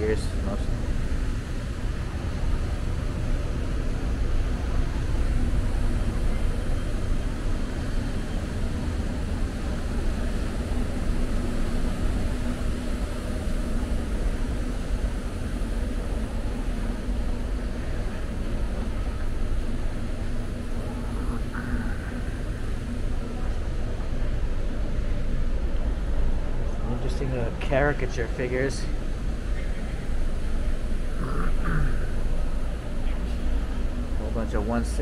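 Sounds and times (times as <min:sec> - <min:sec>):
faint hum: 0:00.0 - 0:35.0
low rumbling noise: 0:00.0 - 0:35.0.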